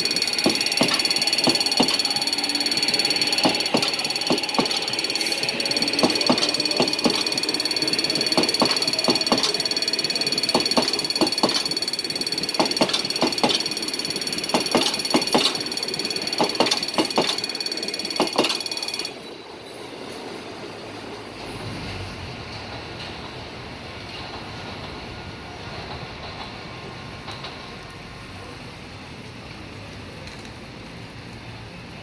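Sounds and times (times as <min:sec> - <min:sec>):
high-pitched train whine: 0:00.0 - 0:32.0
train wheels clicking over rail joints: 0:00.0 - 0:32.0.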